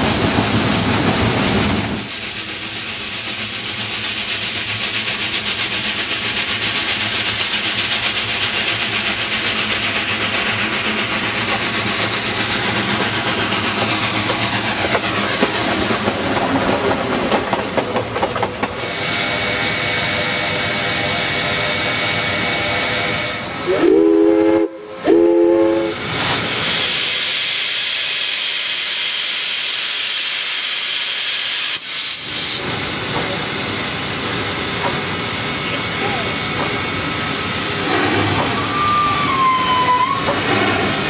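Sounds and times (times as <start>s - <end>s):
hissing steam: 0.0s - 41.0s
steam locomotive exhaust beats: 0.0s - 41.0s.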